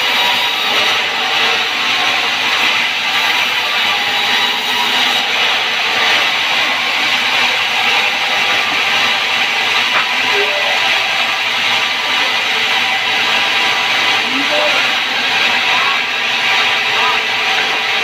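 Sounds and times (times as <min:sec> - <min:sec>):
band saw running: 0:00.0 - 0:18.0.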